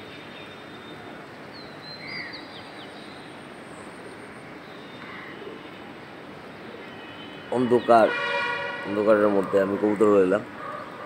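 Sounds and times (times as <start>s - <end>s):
hum of distant traffic: 0.0s - 11.0s.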